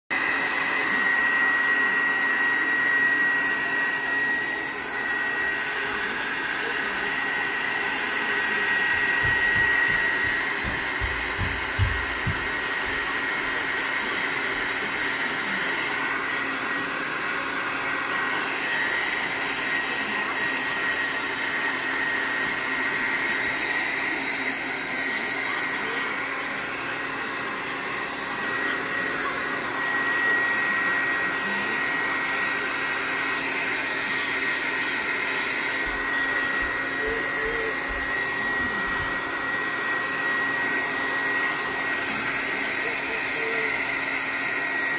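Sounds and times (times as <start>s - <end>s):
hair dryer blowing with whine: 0.1s - 44.9s.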